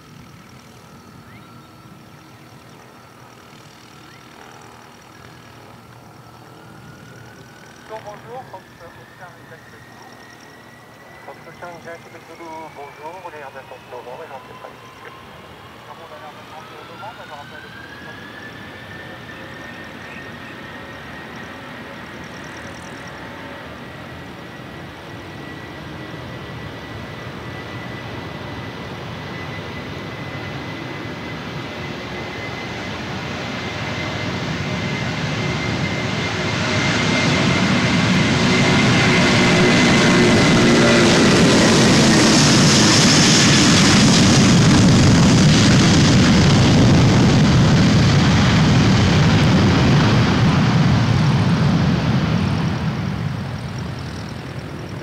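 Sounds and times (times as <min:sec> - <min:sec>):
jet airliner engines roaring: 0:00.0 - 0:55.0.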